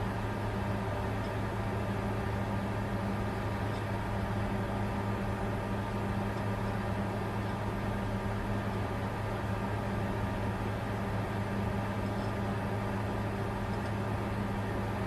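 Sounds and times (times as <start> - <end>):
computer fans whirring: 0.0 - 15.0.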